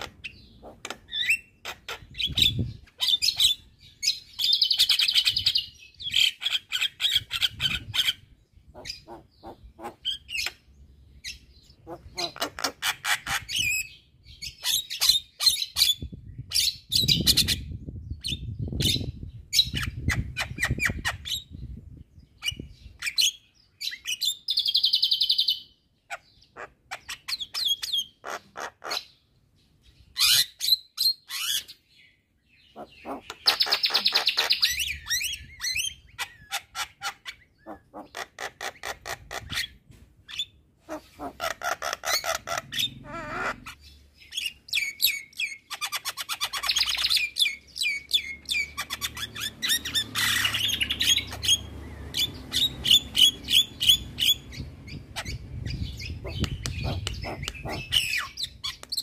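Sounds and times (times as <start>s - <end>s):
myna bird singing: 0.0s - 59.0s.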